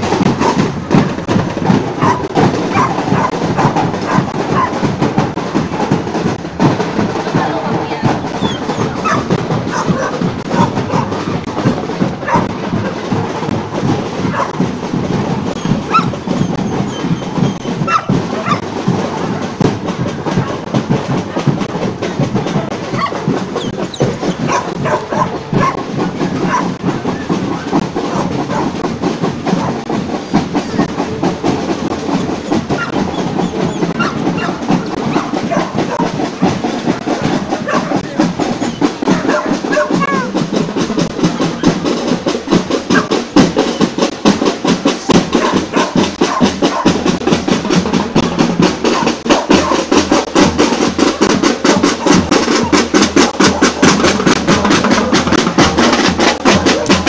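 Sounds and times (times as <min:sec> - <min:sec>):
bass drums beating: 0:00.0 - 0:57.0
snare drums marching rhythm: 0:00.0 - 0:57.0.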